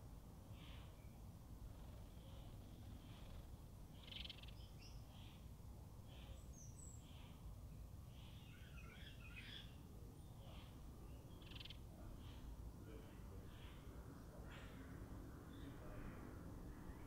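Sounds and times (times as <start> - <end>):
small birds chirping: 0.4 - 17.0.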